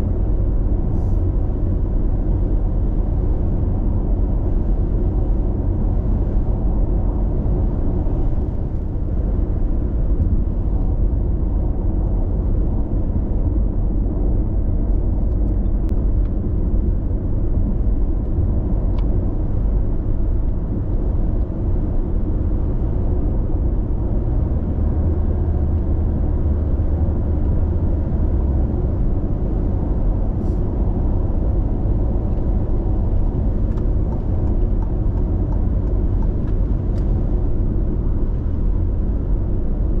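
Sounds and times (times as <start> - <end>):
car road noise rumble: 0.0 - 40.0.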